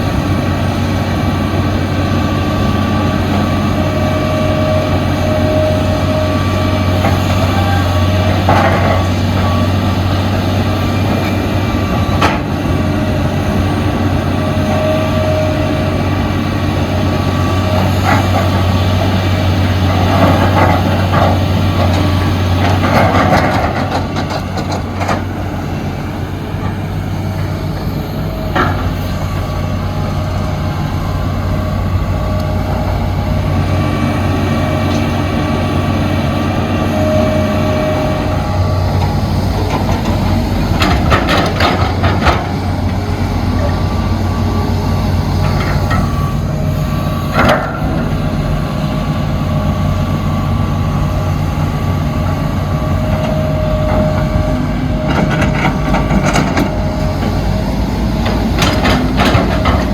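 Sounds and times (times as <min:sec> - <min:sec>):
diesel machinery droning: 0:00.0 - 0:59.9.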